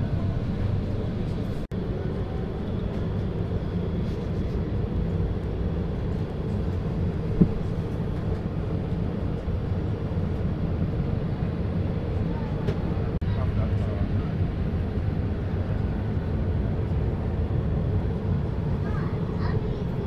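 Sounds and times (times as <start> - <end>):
low machine drone: 0.0 - 20.0.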